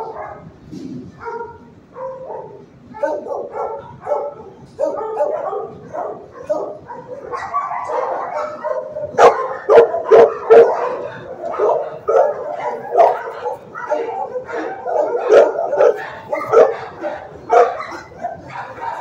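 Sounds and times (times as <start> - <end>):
dogs barking: 0.0 - 19.0.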